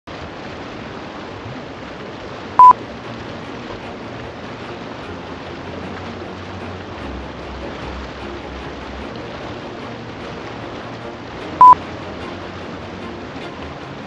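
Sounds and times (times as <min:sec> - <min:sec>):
steady rushing noise: 0:00.1 - 0:14.0.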